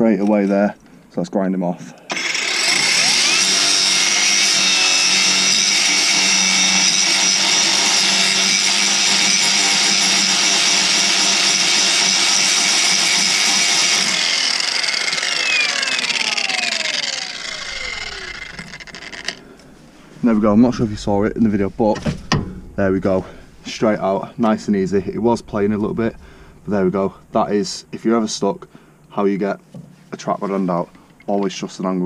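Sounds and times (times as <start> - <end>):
angle grinder grinding metal: 2.1 - 28.4.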